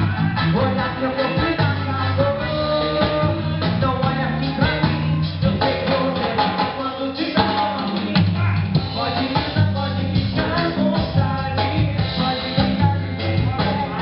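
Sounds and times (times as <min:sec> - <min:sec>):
bass guitar: 0:00.0 - 0:14.0
drum kit: 0:00.0 - 0:14.0
guitar: 0:00.0 - 0:14.0
person singing: 0:00.0 - 0:14.0.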